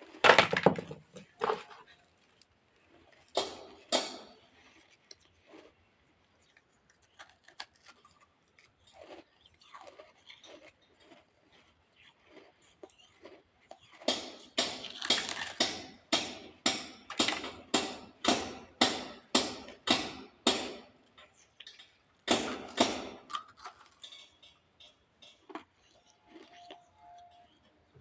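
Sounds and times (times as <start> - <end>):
person chewing with crunches: 0.0 - 0.3, 1.0 - 28.0.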